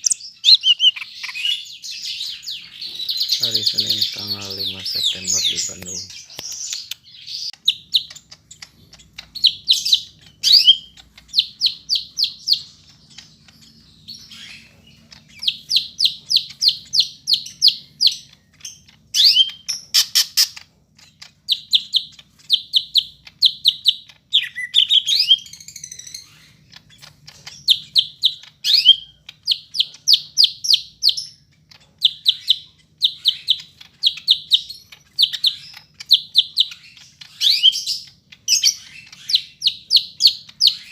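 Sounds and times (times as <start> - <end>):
bird chirping song: 0.0 - 40.9.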